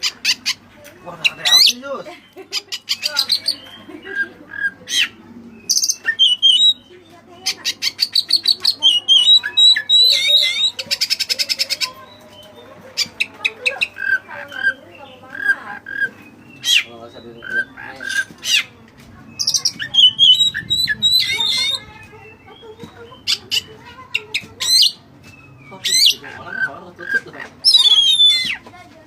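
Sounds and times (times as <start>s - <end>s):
bird singing: 0.0s - 28.7s.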